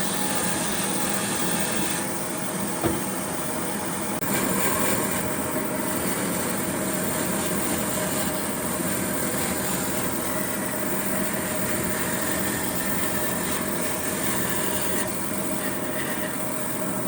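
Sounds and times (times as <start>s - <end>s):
power tool whining on wood: 0.0s - 17.0s.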